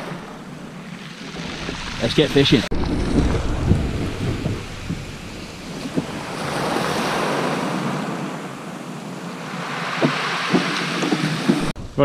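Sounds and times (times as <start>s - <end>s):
waves washing on shingle: 0.0s - 11.8s
wind rumble on microphone: 0.0s - 12.0s.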